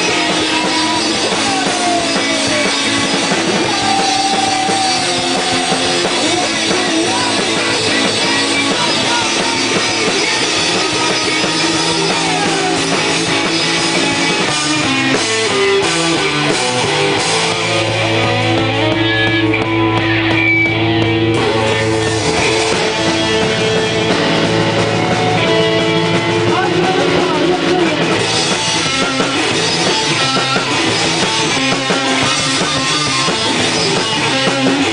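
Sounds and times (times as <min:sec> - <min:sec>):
drum kit with cymbals: 0:00.0 - 0:34.9
electric guitars: 0:00.0 - 0:34.9.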